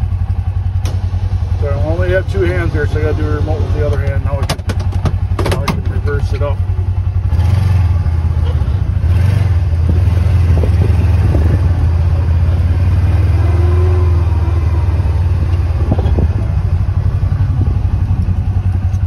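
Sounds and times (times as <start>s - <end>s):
utility vehicle engine running: 0.0s - 19.0s.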